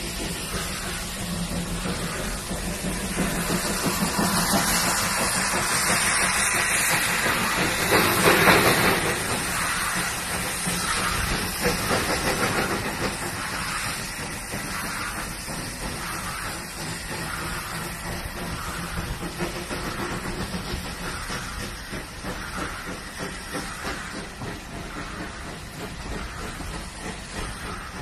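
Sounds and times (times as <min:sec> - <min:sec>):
loud hiss of steam: 0:00.0 - 0:28.0
steam locomotive hauling coaches: 0:00.0 - 0:28.0.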